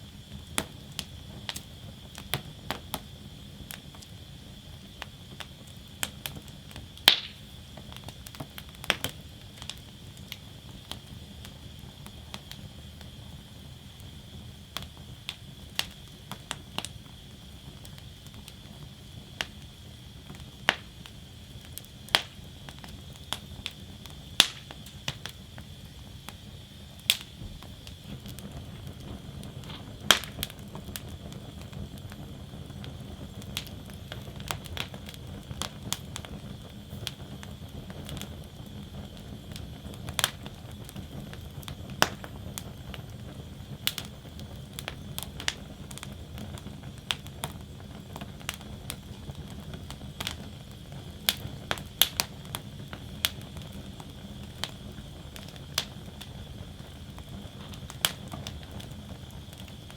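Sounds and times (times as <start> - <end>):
fire rumbling and hissing: 0.0 - 59.9
wood fire crackling and popping: 0.0 - 59.9.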